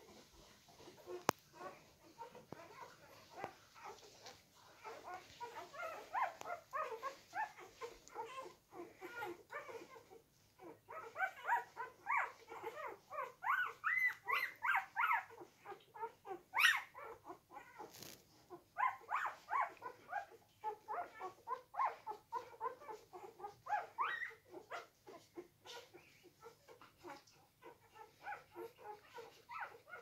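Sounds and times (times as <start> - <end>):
puppies squeaking and whimpering: 0.1 - 30.0.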